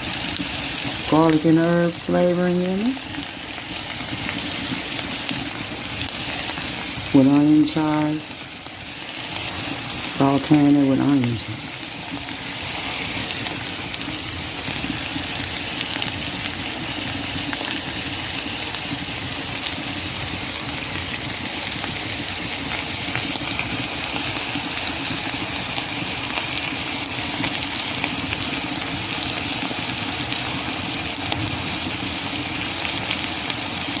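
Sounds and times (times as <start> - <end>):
fish frying in oil: 0.0 - 34.0.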